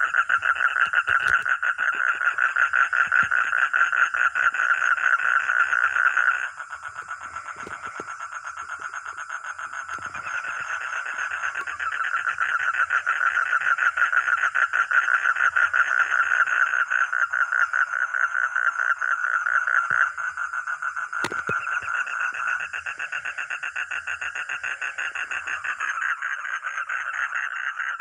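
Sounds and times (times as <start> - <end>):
frog trilling: 0.0 - 28.0.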